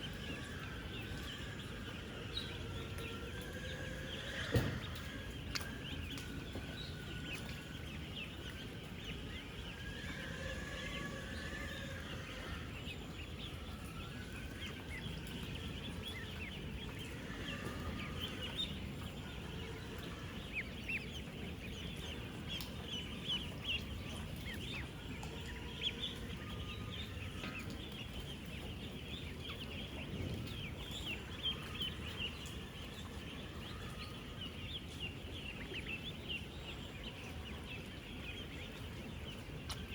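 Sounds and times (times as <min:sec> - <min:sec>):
ducklings peeping: 0:00.0 - 0:39.9
low background noise: 0:00.0 - 0:39.9.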